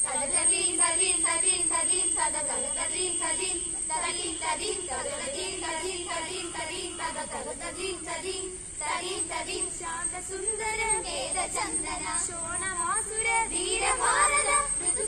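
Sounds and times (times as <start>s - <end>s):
students singing in unison: 0.0s - 15.0s.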